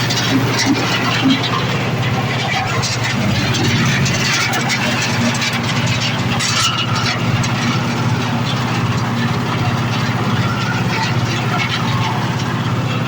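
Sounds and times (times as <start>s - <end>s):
machine motor drone: 0.0s - 13.0s.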